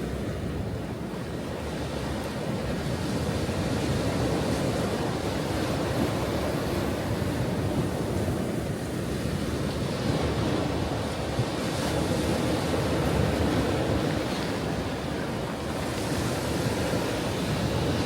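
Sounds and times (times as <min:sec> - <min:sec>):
ocean waves breaking: 0:00.0 - 0:18.0.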